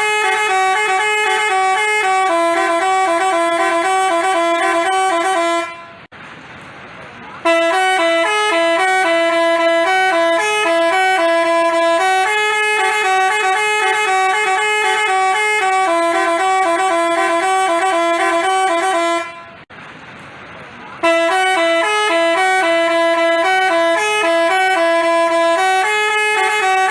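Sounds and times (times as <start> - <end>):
musical horn playing melody: 0.0 - 6.1, 7.4 - 19.6, 21.0 - 26.9.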